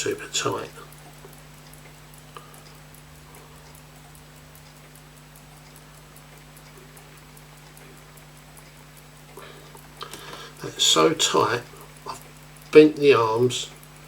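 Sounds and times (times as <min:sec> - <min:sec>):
clock ticking quickly: 0:00.0 - 0:14.0.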